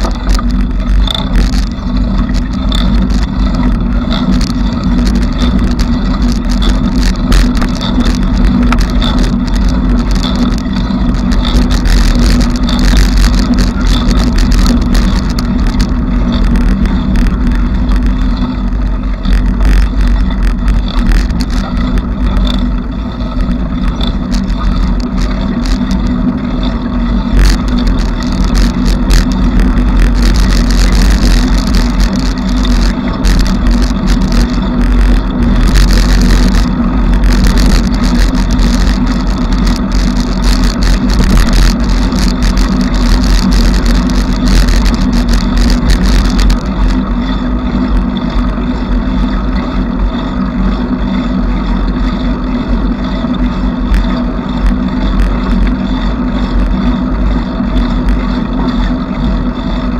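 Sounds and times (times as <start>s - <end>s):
bicycle clicks and rattles: 0.0s - 50.1s
bicycle rolling rumble: 0.0s - 59.9s.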